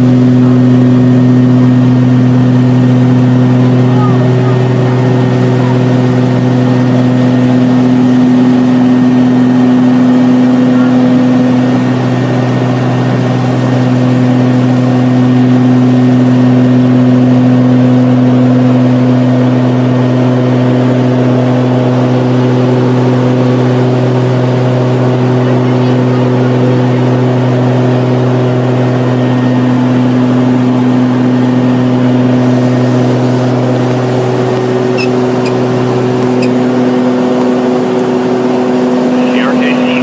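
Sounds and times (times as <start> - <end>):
aircraft cabin engine drone: 0.0 - 40.0.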